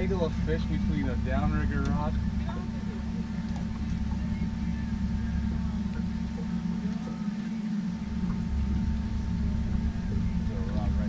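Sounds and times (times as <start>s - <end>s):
faint steady whine: 0.0s - 11.0s
outboard motor rumbling: 0.0s - 11.0s.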